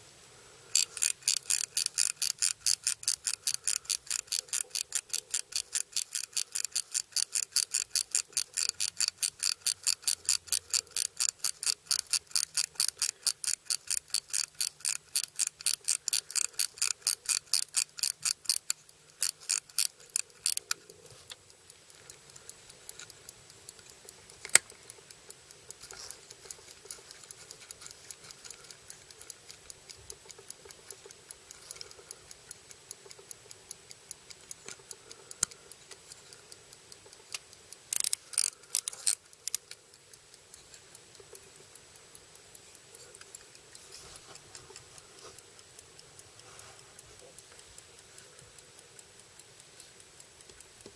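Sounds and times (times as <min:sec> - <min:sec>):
pocket watch ticking: 0:00.6 - 0:50.9.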